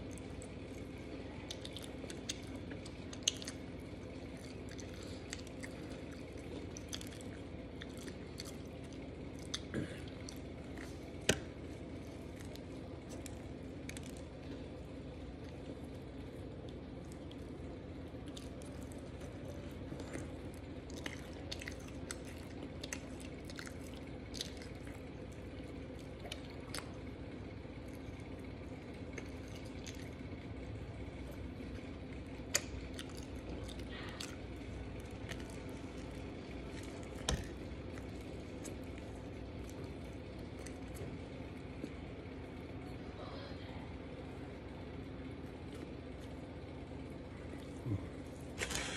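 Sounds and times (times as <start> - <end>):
wet chewing mouth sounds: 0.0 - 42.4.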